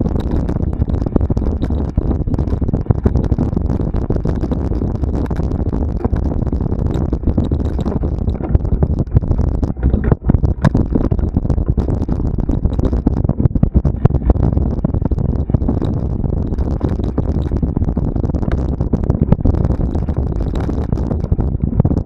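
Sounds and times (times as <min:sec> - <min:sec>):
knocks and rattles: 0:00.0 - 0:22.0
wind rumble on microphone: 0:00.0 - 0:22.0.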